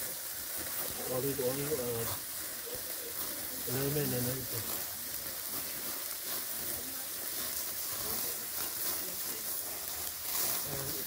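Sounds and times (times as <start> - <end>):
light crackling: 0.0 - 11.0
oil sizzling on grill: 0.0 - 11.0.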